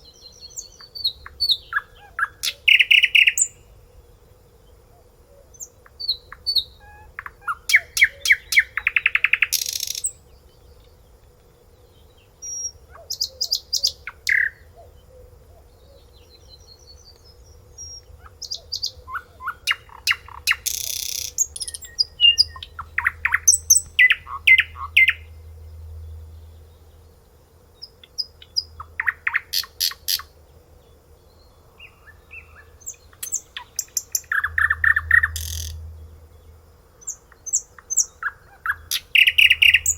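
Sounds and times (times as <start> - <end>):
songbird trilling and chirping: 0.0 - 3.6, 5.5 - 11.0, 11.9 - 27.2, 27.8 - 39.9.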